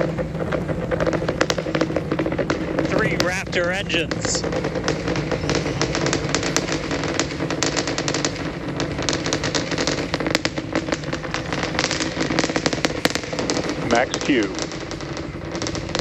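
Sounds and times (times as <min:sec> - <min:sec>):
rocket engines rumbling and crackling: 0:00.0 - 0:16.0.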